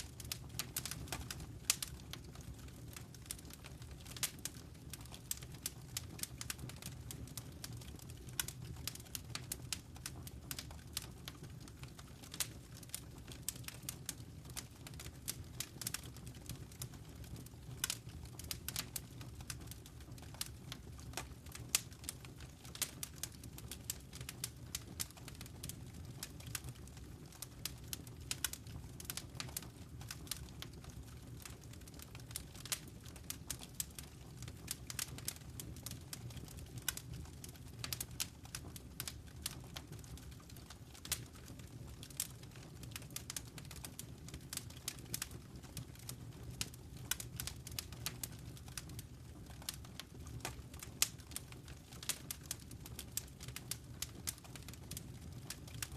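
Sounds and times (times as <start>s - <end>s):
low rumble of flames: 0.0s - 55.9s
wood fire crackling: 0.0s - 55.9s.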